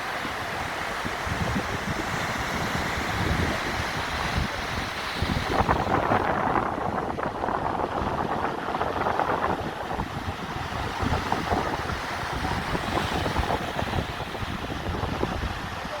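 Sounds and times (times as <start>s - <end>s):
sea waves washing: 0.0s - 16.0s
wind buffeting microphone: 0.0s - 16.0s.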